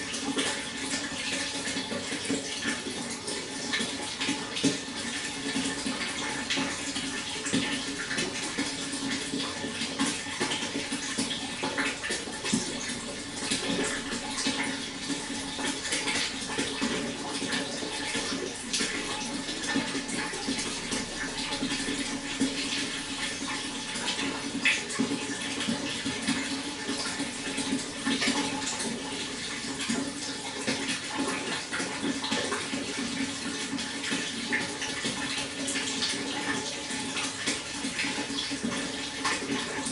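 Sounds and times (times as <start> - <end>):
small splashes and bubbles: 0.0 - 39.9
water flowing: 0.0 - 39.9.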